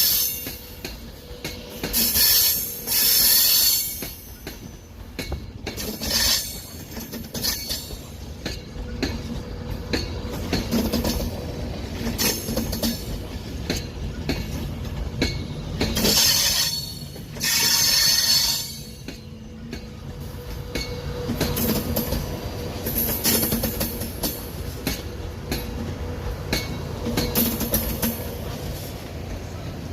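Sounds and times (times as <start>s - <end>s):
train rumble and hum: 0.0s - 29.9s
train wheels clicking over rail joints: 0.0s - 29.9s.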